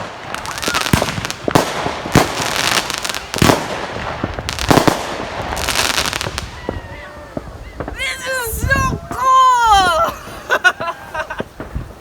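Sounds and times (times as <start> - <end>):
fireworks banging: 0.0 - 12.0
fireworks crackling: 0.0 - 12.0.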